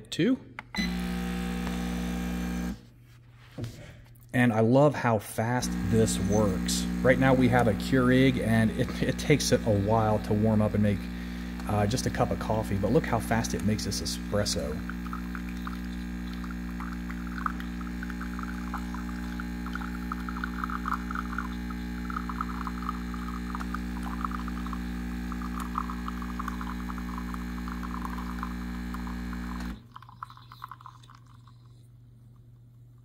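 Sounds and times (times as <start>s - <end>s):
espresso machine pump humming: 0.8s - 2.8s, 5.6s - 31.8s
espresso sputtering into cup: 0.8s - 2.8s, 5.6s - 31.9s.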